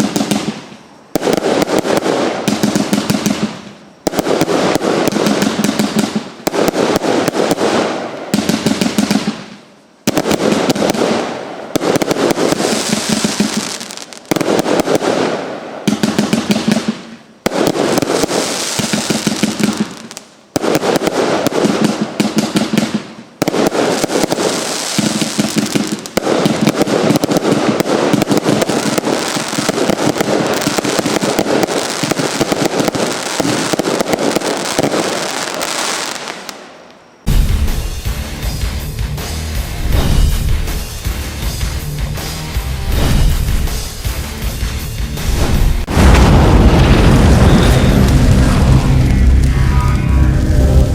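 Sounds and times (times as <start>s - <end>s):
firework crackling bangs: 0.0s - 50.9s.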